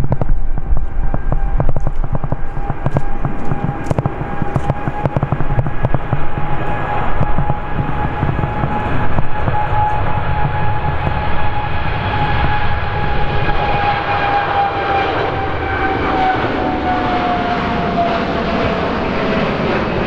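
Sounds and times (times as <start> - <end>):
aircraft engines whining and roaring: 0.0 - 20.0
wind rumble on microphone: 0.0 - 20.0.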